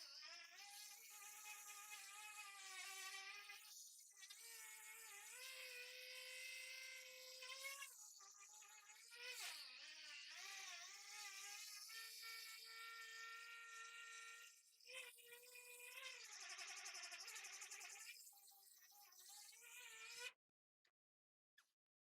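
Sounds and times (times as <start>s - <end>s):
small electric motor whining: 0.0s - 20.4s.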